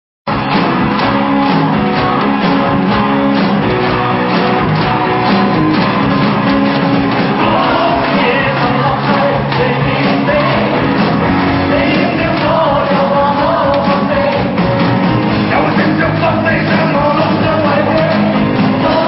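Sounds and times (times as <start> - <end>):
live band playing rock music: 0.3 - 19.0.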